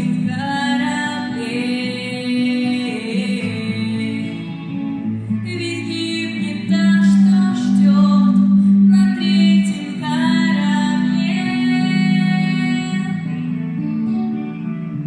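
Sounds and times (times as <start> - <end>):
woman singing: 0.0 - 14.2
guitar accompaniment: 0.0 - 15.0.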